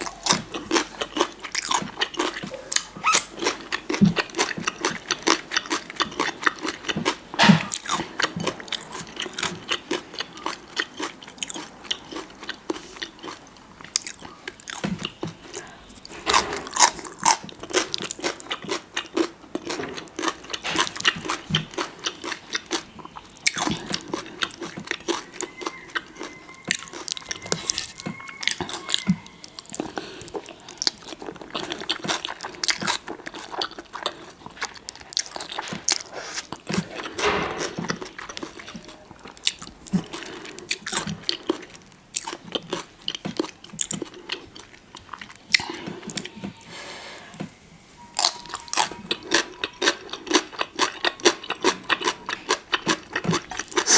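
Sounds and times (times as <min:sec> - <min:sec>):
chewing crunchy food: 0:00.0 - 0:46.7, 0:48.0 - 0:53.9.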